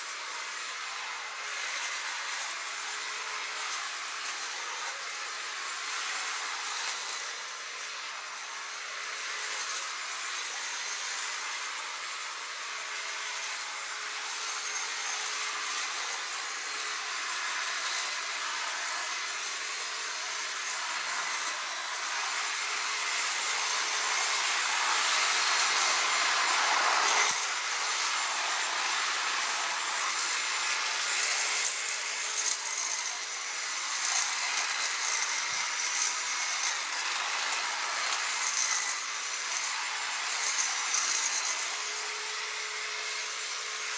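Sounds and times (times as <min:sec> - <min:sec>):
electric hedge clippers buzzing: 0:00.0 - 0:43.9.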